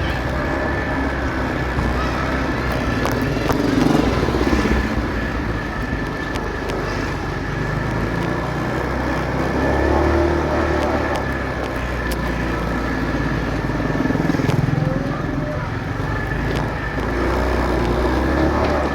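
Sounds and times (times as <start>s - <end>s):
motorcycle engine running: 0.0s - 18.9s
road and wind noise: 0.0s - 18.9s.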